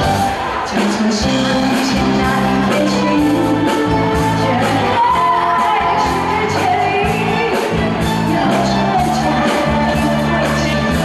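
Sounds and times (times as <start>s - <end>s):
live band playing: 0.0s - 11.0s
woman singing pop song: 0.0s - 11.0s.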